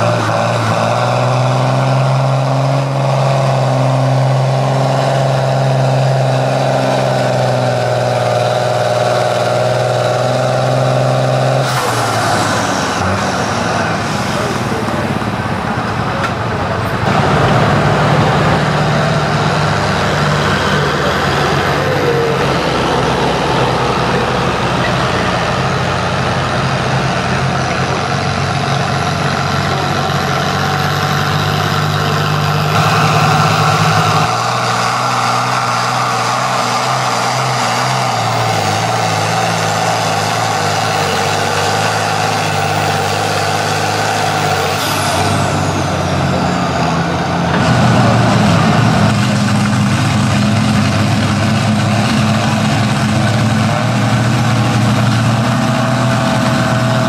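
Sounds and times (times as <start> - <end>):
tractor engines under load: 0.0 - 57.0.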